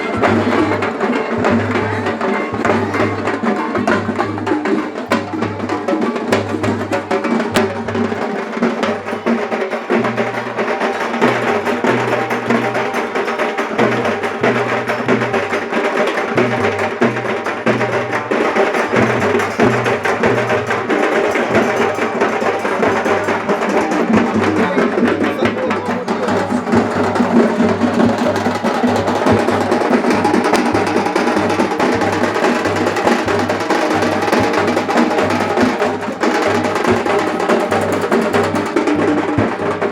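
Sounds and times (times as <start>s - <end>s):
music with busy drumming: 0.0s - 39.9s.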